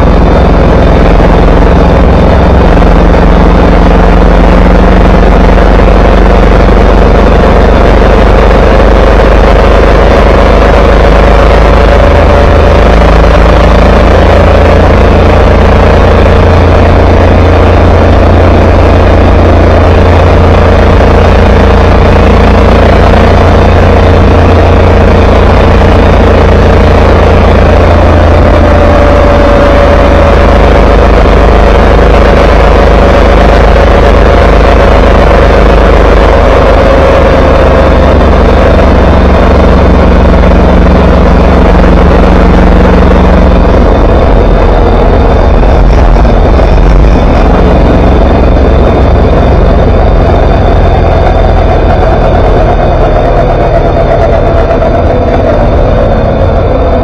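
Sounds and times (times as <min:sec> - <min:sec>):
motorcycle engine hum: 0:00.0 - 0:57.0
wind and road noise: 0:00.0 - 0:57.0.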